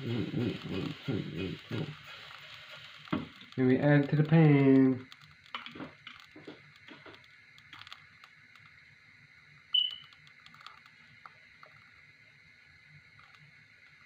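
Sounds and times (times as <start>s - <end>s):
batter sizzling in frying pan: 0.0s - 14.0s.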